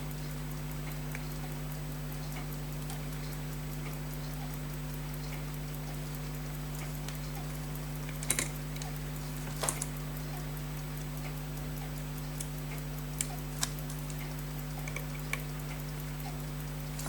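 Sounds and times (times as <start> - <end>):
low electrical hum: 0.0 - 17.0
watch ticking rapidly: 0.0 - 17.0.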